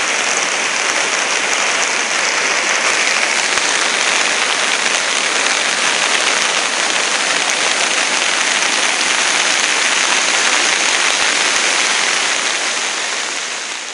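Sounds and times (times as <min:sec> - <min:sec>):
floodwater rushing: 0:00.0 - 0:13.9.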